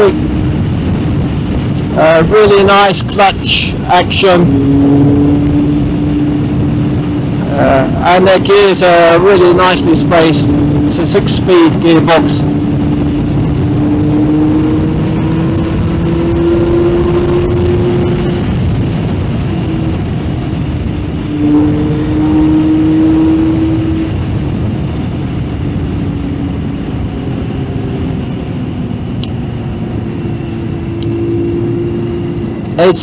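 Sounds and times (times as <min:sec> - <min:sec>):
motorcycle engine accelerating: 0:00.0 - 0:33.0
wind rush over microphone: 0:00.0 - 0:33.0.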